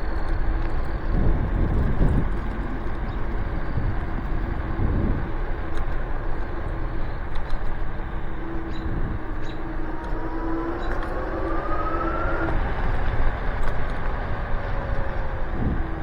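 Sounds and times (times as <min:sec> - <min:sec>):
electric motor whine: 0:00.0 - 0:16.0
wind and road noise: 0:00.0 - 0:16.0.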